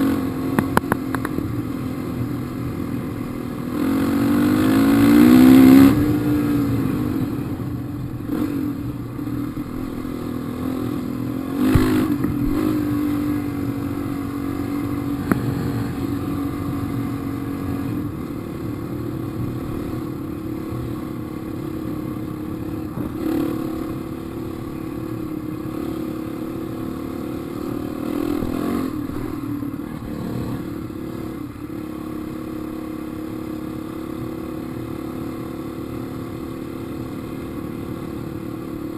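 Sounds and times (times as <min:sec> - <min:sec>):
dirt bike engine revving: 0:00.0 - 0:31.4.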